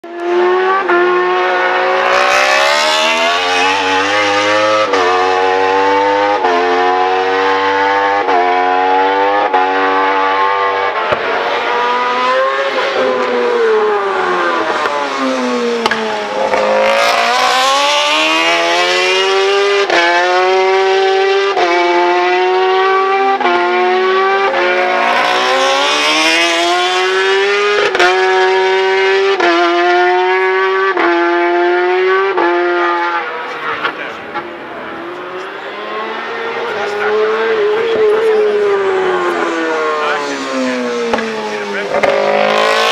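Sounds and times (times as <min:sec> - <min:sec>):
racing motorcycle engines: 0:00.0 - 0:42.9.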